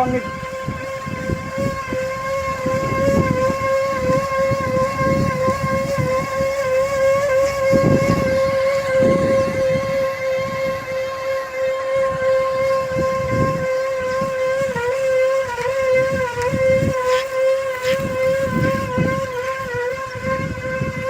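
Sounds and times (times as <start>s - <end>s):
high-pitched machine whine: 0.0s - 21.0s
low rumbling: 0.0s - 21.0s.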